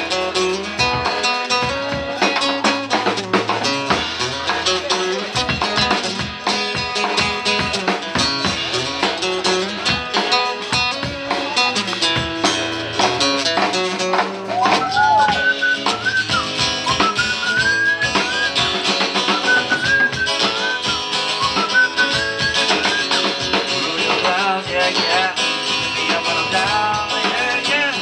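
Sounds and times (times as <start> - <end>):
acoustic guitar strumming: 0.0 - 28.0
drum kit: 0.0 - 28.0.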